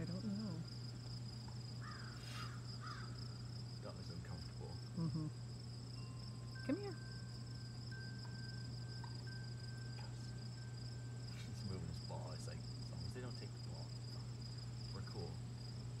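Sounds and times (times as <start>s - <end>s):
constant low hum: 0.0s - 16.0s
crickets chirring: 0.0s - 16.0s.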